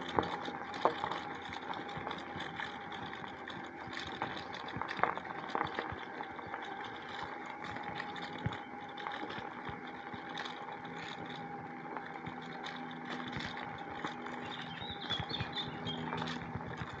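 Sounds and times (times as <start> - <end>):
bicycle tyres on path: 0.0 - 17.0
bike clicks and rattles: 0.0 - 17.0
steady hum: 0.0 - 17.0.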